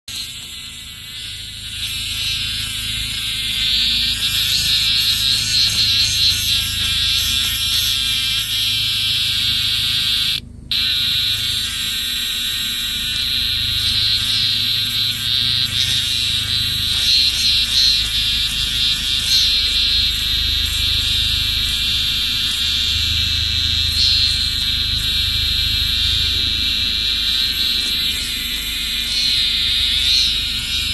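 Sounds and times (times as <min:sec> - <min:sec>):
cicada buzzing: 0:00.0 - 0:30.9.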